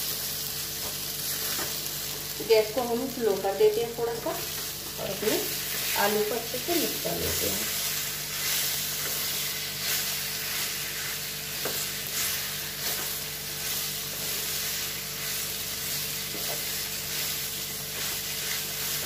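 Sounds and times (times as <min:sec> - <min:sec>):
potatoes sizzling in oil: 0:00.0 - 0:19.0.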